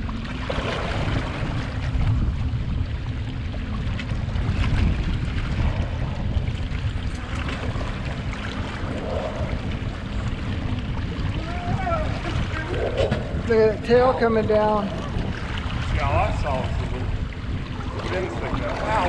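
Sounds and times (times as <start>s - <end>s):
water washing against hull: 0.0s - 19.0s
wind buffeting microphone: 0.0s - 19.0s.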